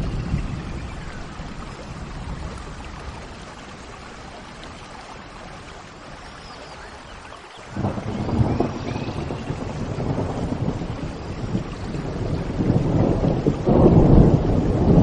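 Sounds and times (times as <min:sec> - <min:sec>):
low rumble of thunder: 0:00.0 - 0:06.2, 0:07.7 - 0:15.0
steady rain falling: 0:00.0 - 0:15.0.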